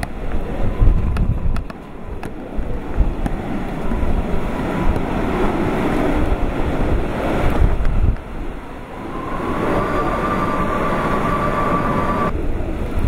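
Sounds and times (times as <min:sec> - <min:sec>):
wind and rain roaring: 0:00.0 - 0:13.0
wind buffeting microphone: 0:00.0 - 0:13.0.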